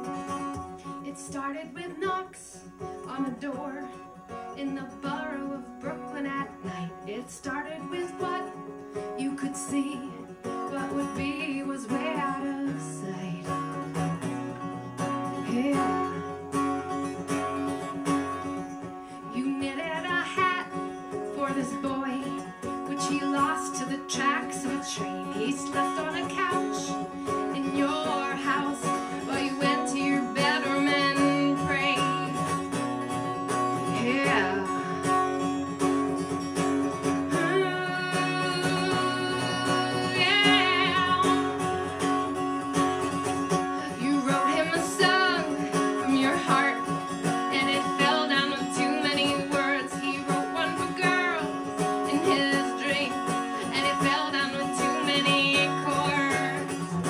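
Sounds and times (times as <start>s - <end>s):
strummed acoustic guitar: 0.0s - 57.0s
woman singing: 0.0s - 57.0s.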